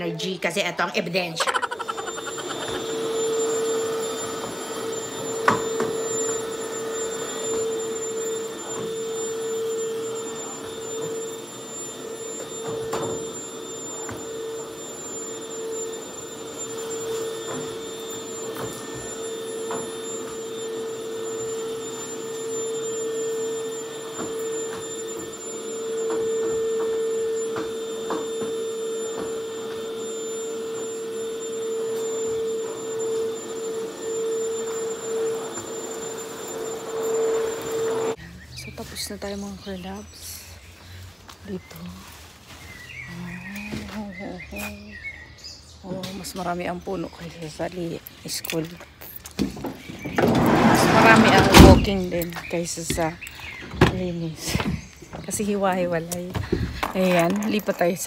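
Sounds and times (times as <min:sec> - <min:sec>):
vacuum cleaner humming: 0:00.0 - 0:45.1, 0:45.8 - 0:58.0.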